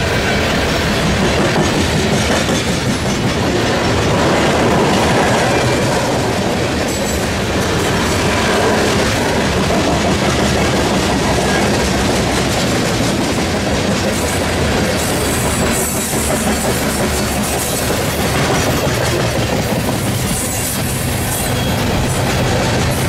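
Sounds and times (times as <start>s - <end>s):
diesel locomotive hum: 0.0s - 23.0s
train wheels rumbling on rails: 0.0s - 23.0s.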